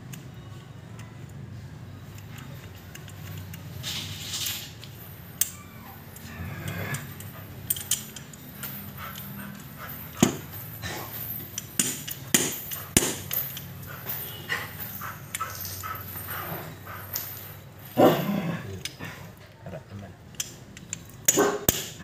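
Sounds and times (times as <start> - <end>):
metal gears clinking and knocking: 1.9 - 19.5, 20.2 - 22.0.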